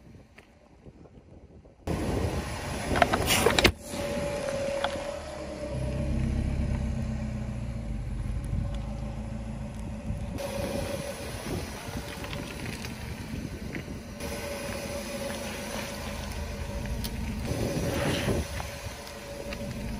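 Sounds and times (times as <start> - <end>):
car engine idling: 1.9 - 19.9.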